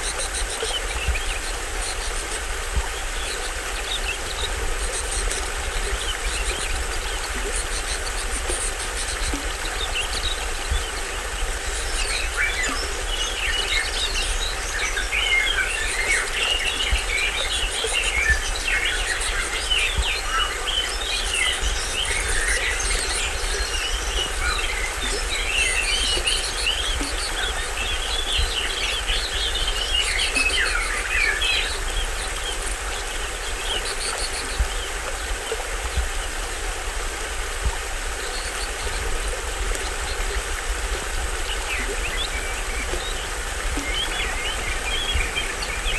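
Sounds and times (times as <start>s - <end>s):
birds chirping: 0.0s - 36.4s, 37.7s - 45.9s
small waterfall running: 0.0s - 45.9s.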